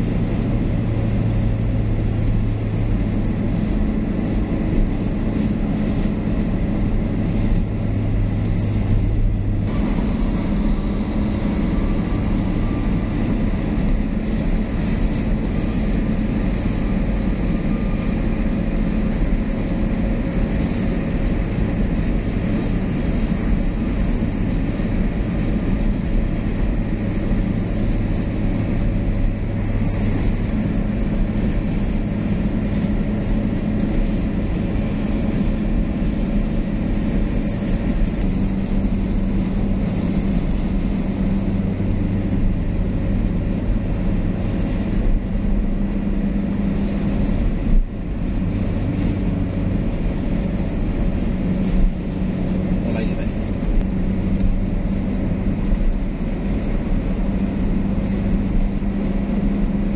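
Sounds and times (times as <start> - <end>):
car road noise at highway speed: 0.0 - 59.9.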